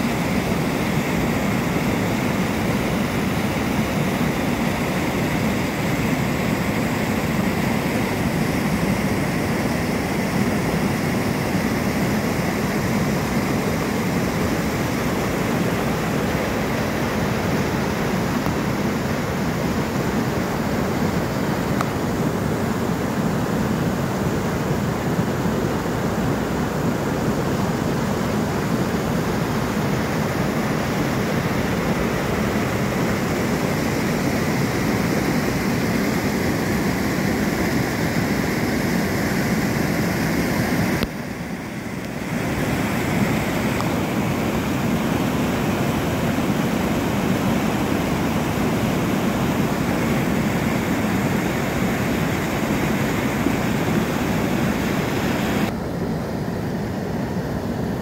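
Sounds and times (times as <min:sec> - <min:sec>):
river rushing over weir: 0:00.0 - 0:58.0.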